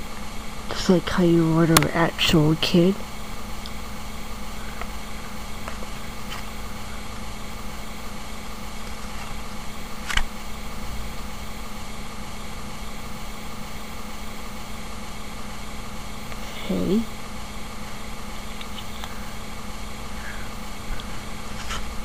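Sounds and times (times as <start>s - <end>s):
low hum with hiss: 0.0s - 22.0s.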